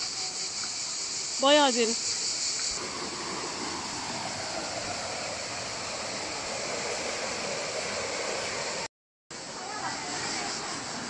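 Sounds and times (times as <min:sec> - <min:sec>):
high insect buzz: 0:00.0 - 0:08.9
stream water running over rocks: 0:00.0 - 0:11.0.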